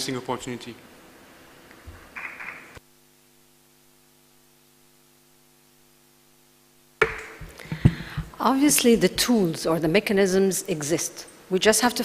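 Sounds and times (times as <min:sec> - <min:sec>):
faint mains hum: 0:00.0 - 0:12.0.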